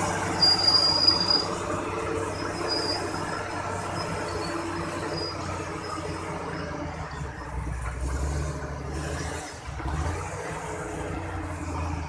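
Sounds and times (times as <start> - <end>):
diesel truck engine labouring: 0.0 - 12.0.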